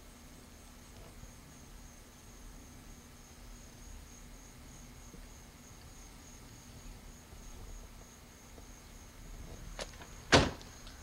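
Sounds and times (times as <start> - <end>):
camcorder hum and hiss: 0.0 - 11.0
faint insect chirring: 0.0 - 11.0.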